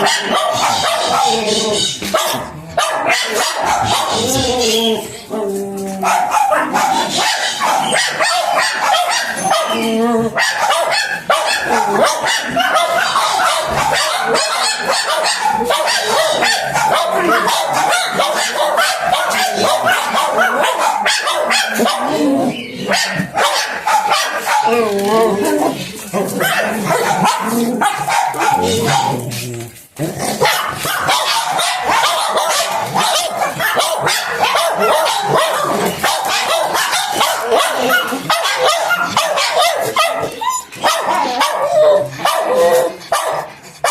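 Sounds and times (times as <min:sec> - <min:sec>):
dog barking: 0:00.0 - 0:05.1, 0:06.0 - 0:29.4, 0:30.2 - 0:43.9.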